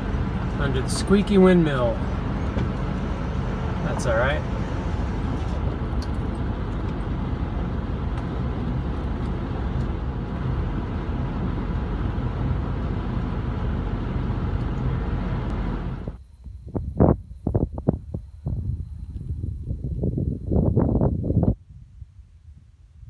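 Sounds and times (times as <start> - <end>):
truck engine and tyre noise: 0.0 - 21.6.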